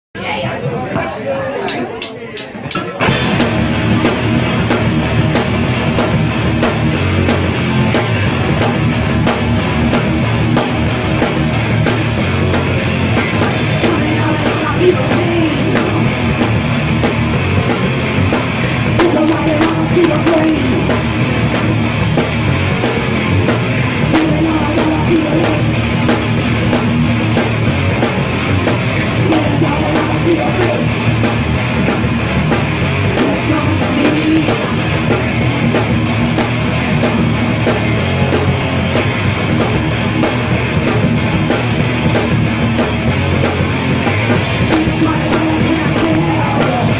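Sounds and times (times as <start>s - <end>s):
bass guitar: 0.2s - 46.9s
distorted electric guitars: 0.2s - 46.9s
drum kit: 0.2s - 46.9s.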